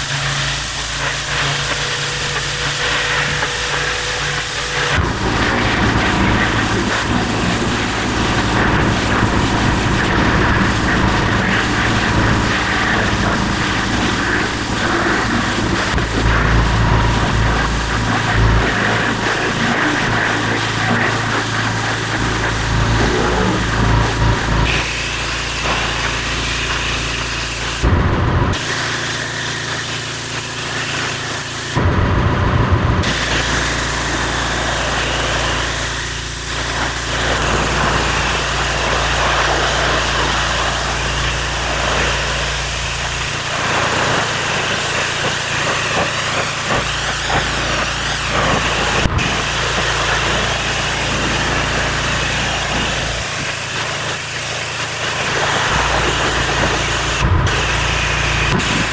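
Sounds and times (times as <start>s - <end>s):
high-pressure water jet hissing: 0.0s - 58.9s
machine humming: 0.0s - 58.9s.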